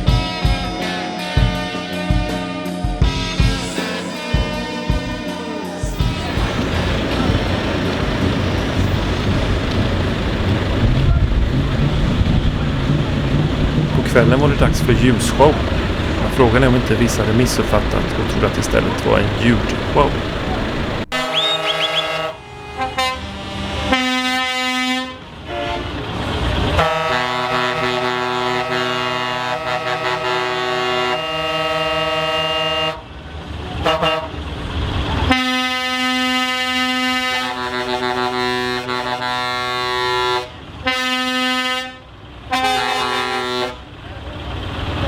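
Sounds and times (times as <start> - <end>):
truck air horns blasting: 5.6 - 33.0, 33.8 - 34.4, 35.3 - 43.9.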